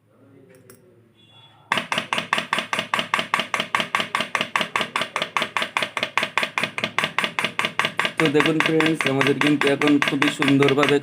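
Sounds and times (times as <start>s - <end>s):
dosing pump clacking: 1.7s - 11.0s.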